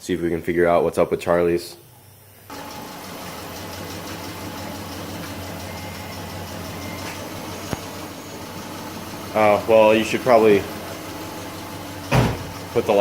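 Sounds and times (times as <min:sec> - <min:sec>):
car engine idling: 0:02.5 - 0:13.0.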